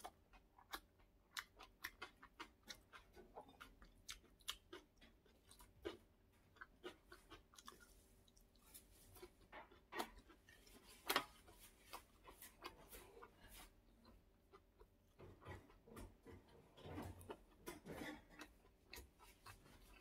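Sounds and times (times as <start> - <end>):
chewing food: 0.0 - 20.0.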